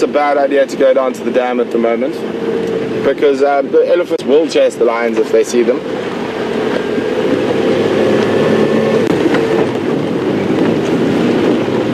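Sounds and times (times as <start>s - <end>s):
vehicle engine running: 0.0s - 11.9s
vehicle rattling over bumps: 0.0s - 11.9s.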